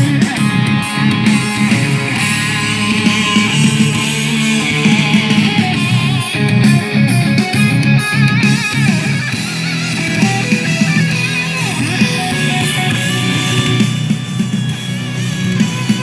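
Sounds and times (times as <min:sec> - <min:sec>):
guitar music through speakers: 0:00.0 - 0:16.0.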